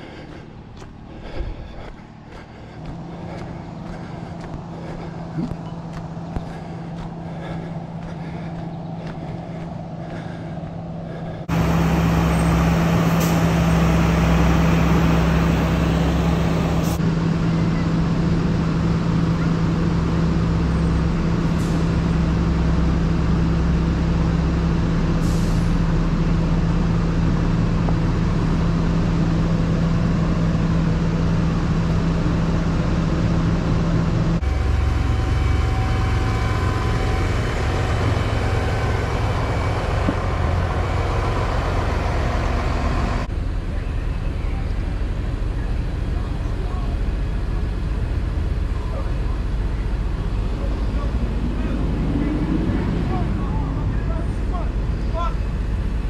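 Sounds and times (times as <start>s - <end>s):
diesel engines droning: 0.0s - 56.0s.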